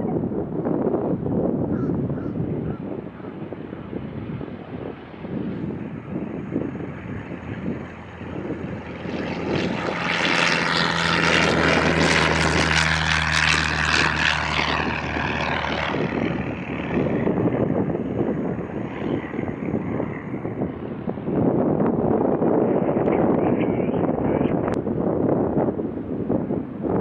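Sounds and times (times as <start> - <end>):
propeller airplane flying past: 0.0 - 27.0
wind buffeting microphone: 0.0 - 27.0.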